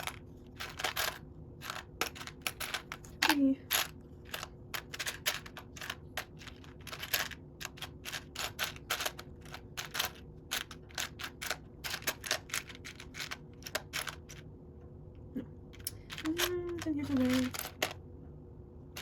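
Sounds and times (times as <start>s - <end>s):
plastic bricks clattering: 0.0s - 14.4s, 15.8s - 18.0s.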